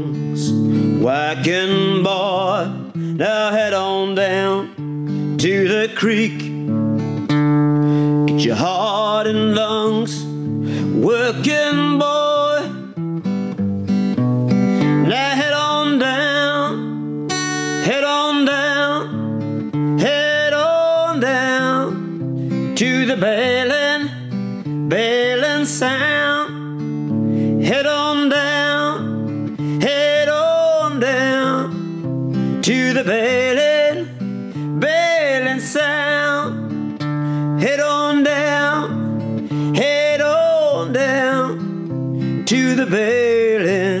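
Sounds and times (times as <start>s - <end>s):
song with guitar and singing: 0.0s - 44.0s.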